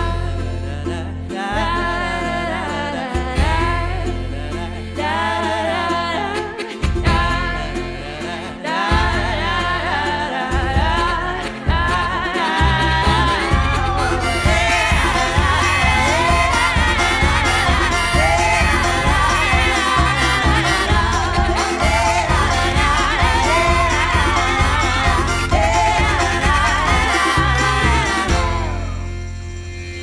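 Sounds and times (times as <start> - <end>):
song with vocals over bass beat: 0.0 - 30.0.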